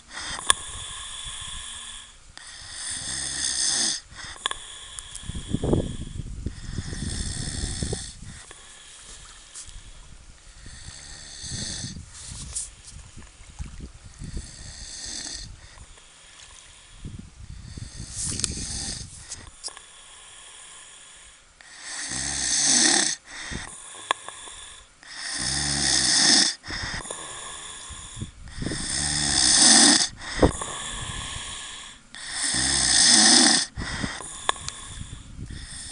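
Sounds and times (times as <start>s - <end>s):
loud drawn-out snoring: 0.0s - 9.0s, 10.5s - 12.0s, 14.2s - 15.8s, 16.8s - 19.2s, 20.2s - 35.9s
quiet uneven snoring: 0.0s - 12.4s, 14.2s - 35.9s.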